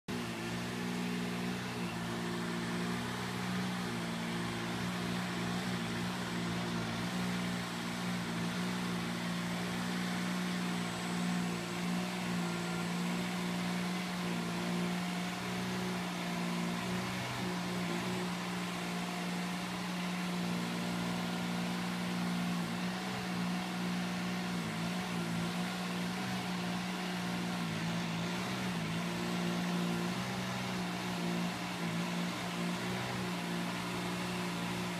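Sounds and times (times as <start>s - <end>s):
mini tractor engine humming: 0.1s - 34.9s.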